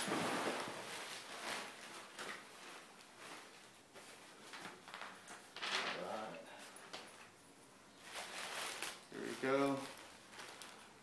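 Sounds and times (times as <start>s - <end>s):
plastic packaging rustling: 0.0s - 7.4s, 8.0s - 11.0s.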